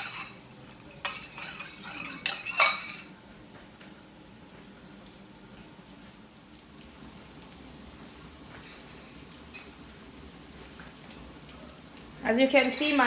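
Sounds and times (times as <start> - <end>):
food sizzling and bubbling in pot: 0.0 - 13.0.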